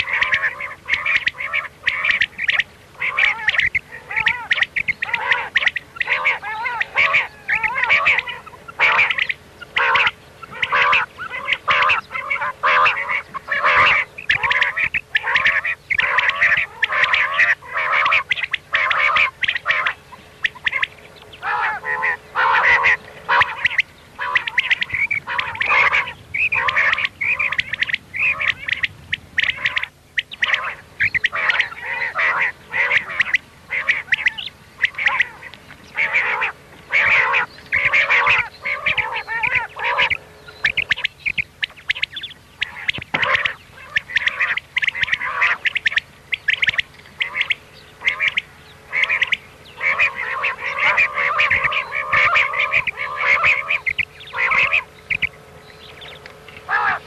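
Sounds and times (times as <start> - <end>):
quail calling: 0.0 - 57.0.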